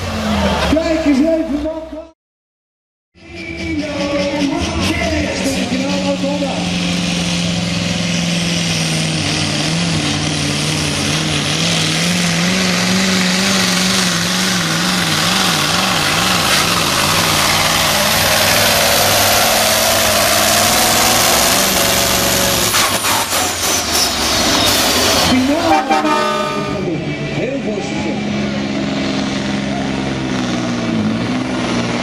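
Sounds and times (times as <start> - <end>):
diesel truck engine at full power: 0.0 - 2.1, 3.2 - 32.0.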